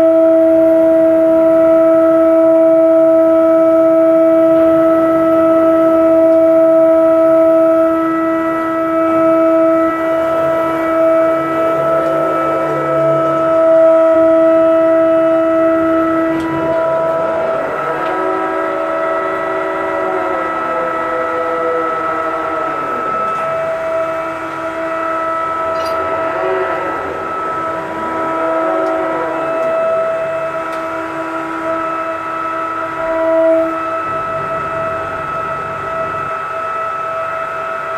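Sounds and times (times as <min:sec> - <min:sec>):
crane machinery whining: 0:00.0 - 0:37.9.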